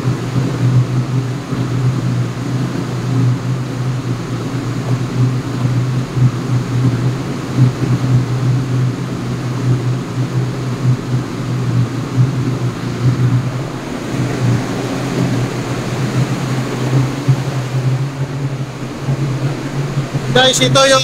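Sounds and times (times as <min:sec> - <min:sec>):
ship engine room drone: 0:00.0 - 0:21.0.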